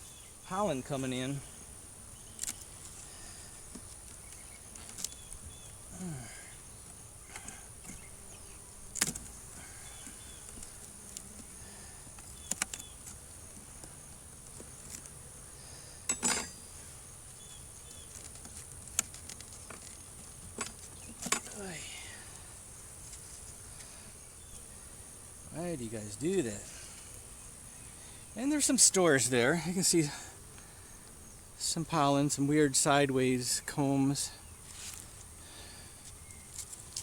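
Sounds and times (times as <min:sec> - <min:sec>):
bees droning: 0:00.0 - 0:18.1, 0:20.4 - 0:34.6.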